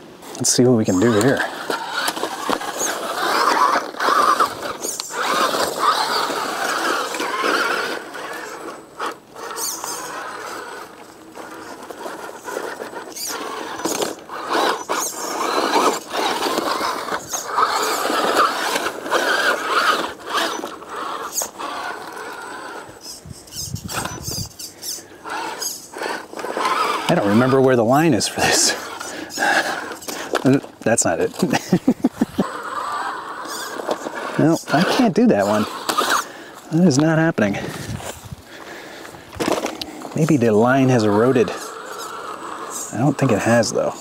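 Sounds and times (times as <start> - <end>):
rc car motor whining: 0.2 - 44.0.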